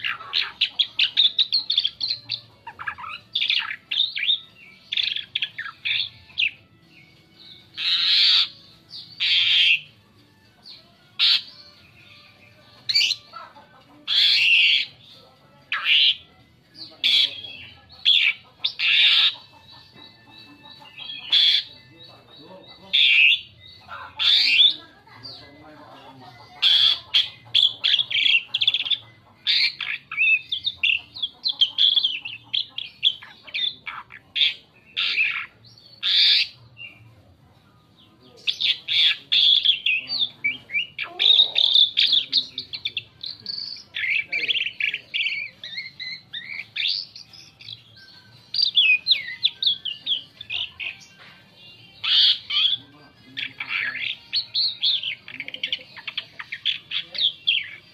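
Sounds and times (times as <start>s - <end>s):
starling singing: 0.0s - 57.9s.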